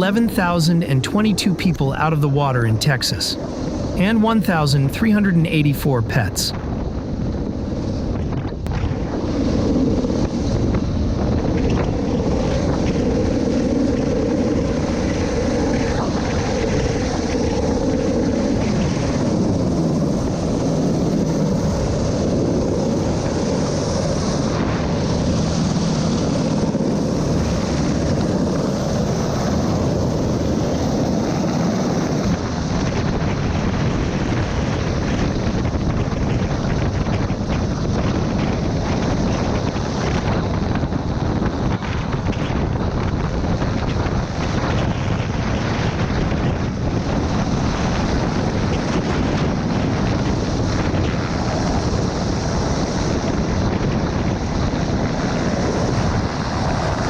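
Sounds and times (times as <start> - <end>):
wind buffeting microphone: 6.5 - 57.0.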